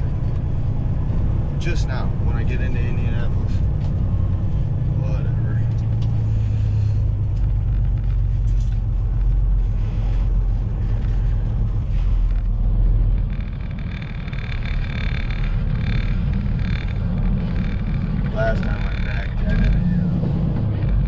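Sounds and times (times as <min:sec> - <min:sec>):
truck diesel engine rumble: 0:00.0 - 0:21.0.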